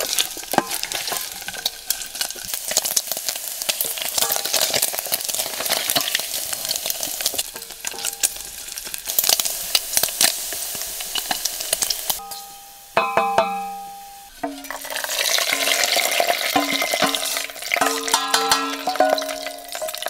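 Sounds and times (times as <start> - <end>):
pork fat sizzling and crackling: 0.0 - 20.0.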